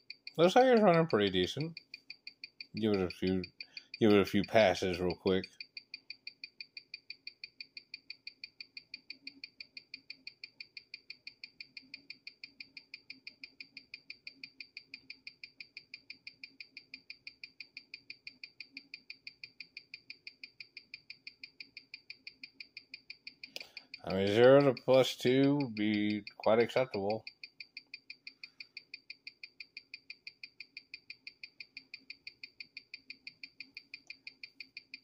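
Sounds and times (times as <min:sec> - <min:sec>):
watch ticking through a speaker: 0:00.0 - 0:35.0.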